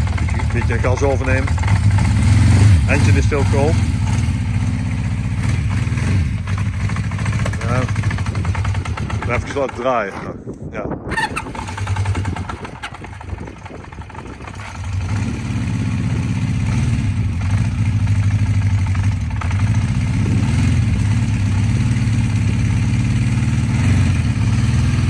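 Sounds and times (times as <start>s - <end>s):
motorcycle engine running: 0.0s - 10.5s, 11.1s - 25.0s.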